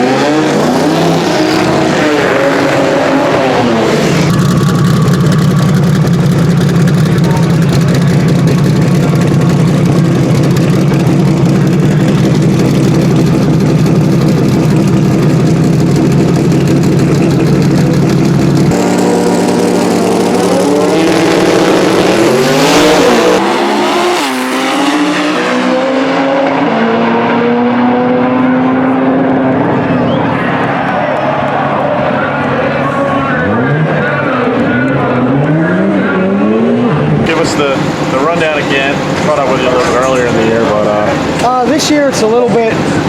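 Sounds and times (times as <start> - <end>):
drag car engine roaring: 0.0 - 43.0.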